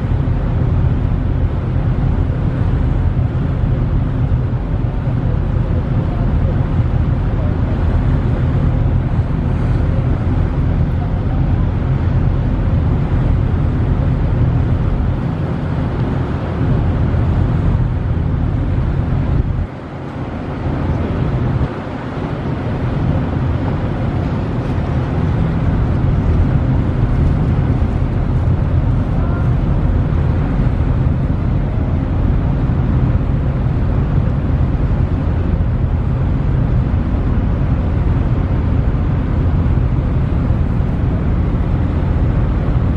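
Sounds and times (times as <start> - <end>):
ship engine drone: 0.0 - 42.9
wind on microphone: 0.0 - 42.9.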